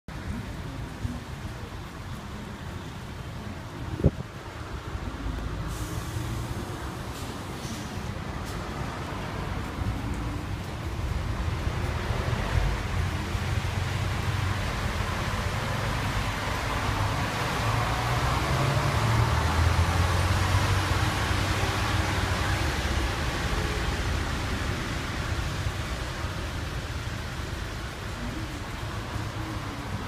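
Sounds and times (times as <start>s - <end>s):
heavy rain on pavement: 0.1s - 30.0s.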